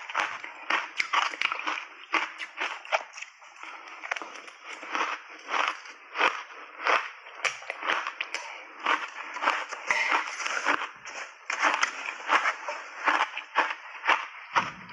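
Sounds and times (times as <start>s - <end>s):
shaved ice being chewed: 0.0s - 14.8s.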